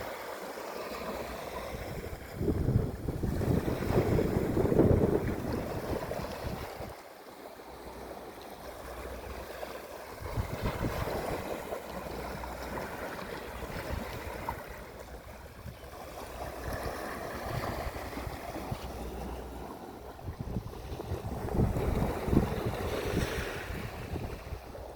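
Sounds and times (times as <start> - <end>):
sea waves washing ashore: 0.0 - 24.9
wind buffeting microphone: 1.6 - 7.0, 10.1 - 24.9.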